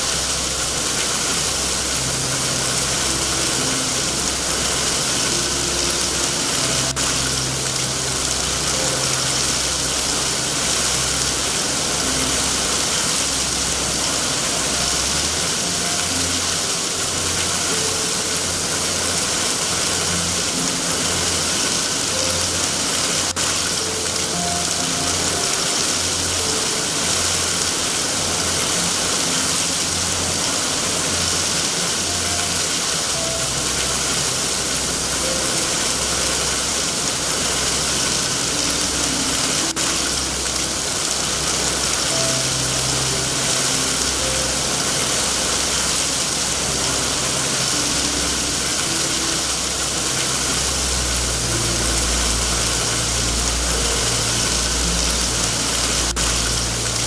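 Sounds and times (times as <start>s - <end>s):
heavy rain hiss: 0.0s - 57.0s
low droning rumble: 0.0s - 57.0s.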